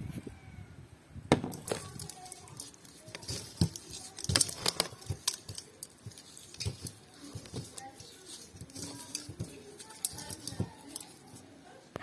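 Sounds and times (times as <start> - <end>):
clicks and knocks: 1.3 - 11.4
rustling: 1.3 - 12.0.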